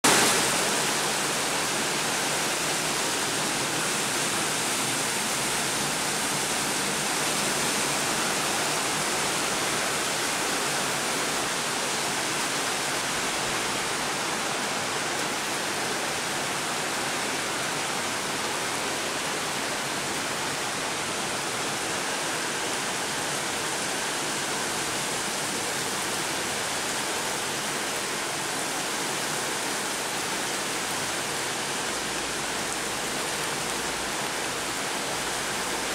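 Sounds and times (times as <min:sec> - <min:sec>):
heavy rain on trees and pavement: 0:00.0 - 0:35.9.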